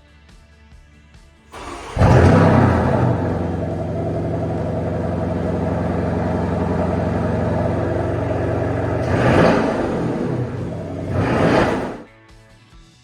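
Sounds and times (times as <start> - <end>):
car engine idling: 1.6 - 12.0
car engine revving sharply: 1.6 - 12.1.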